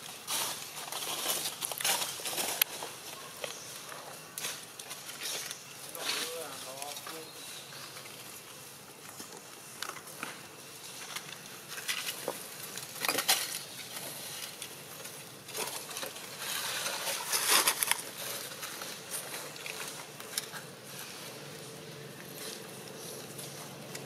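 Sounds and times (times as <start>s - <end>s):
dry leaves and twigs crackling: 0.0s - 24.0s.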